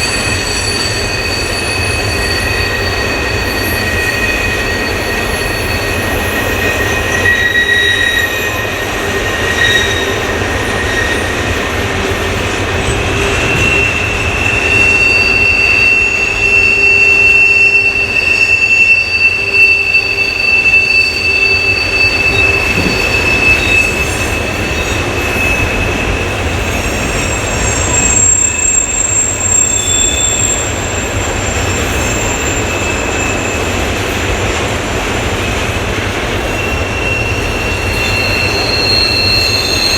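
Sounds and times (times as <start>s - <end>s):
wheel flanges squealing: 0.0s - 34.5s, 36.2s - 39.9s
freight train wheels rumbling on rail: 0.0s - 39.9s.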